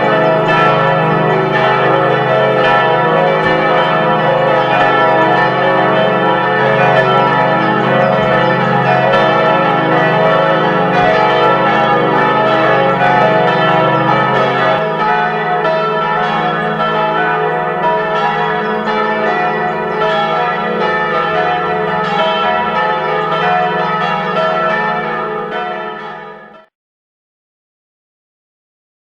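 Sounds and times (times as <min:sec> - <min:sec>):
church bells ringing: 0:00.0 - 0:26.7.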